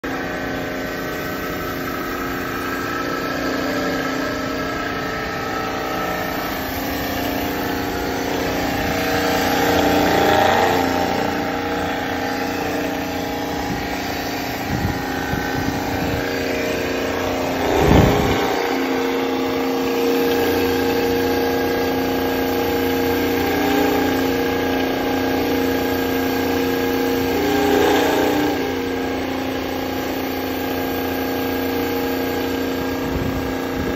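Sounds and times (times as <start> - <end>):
pump motor whine: 0.0 - 33.9.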